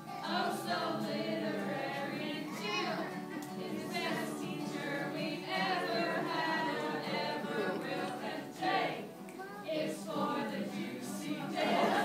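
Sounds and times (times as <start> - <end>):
acoustic guitars: 0.0 - 12.0
group of people singing: 0.0 - 12.0.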